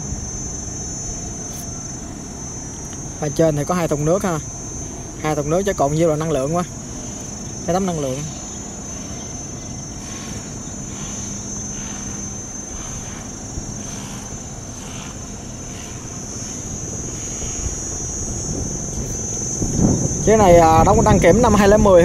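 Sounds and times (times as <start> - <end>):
barge engine drone: 0.0 - 22.0
insect buzz: 0.0 - 22.0.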